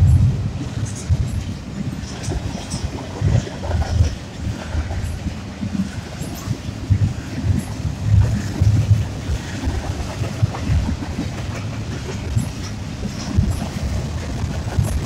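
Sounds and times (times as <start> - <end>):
wheels clacking over rail joints: 0.0 - 15.0.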